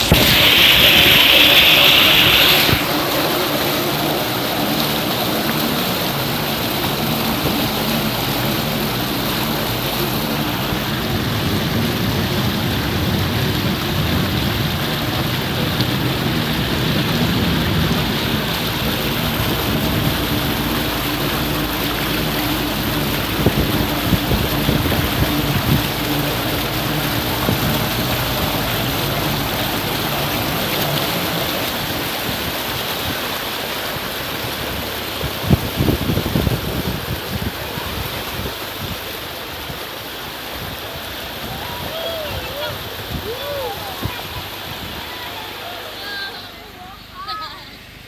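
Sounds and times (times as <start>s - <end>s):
motorboat engine running: 0.0s - 41.6s
rushing water: 0.0s - 48.0s.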